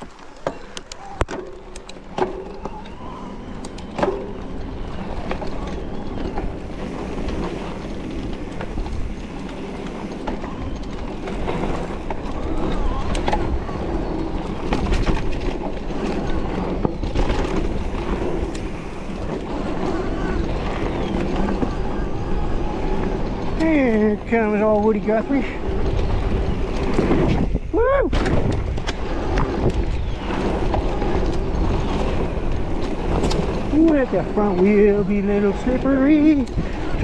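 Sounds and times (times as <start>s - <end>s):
bike clicks and knocks: 0.0s - 37.0s
tyres rolling over rough ground: 0.0s - 37.0s
wind buffeting microphone: 1.0s - 37.0s.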